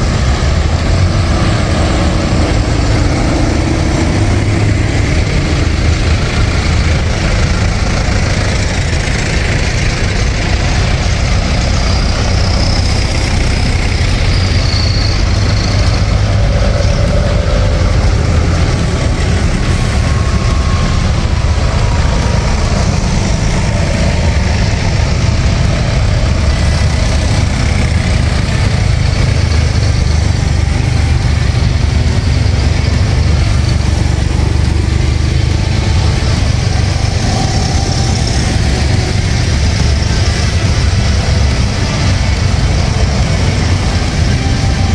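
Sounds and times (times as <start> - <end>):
tractor engines droning: 0.0 - 44.9.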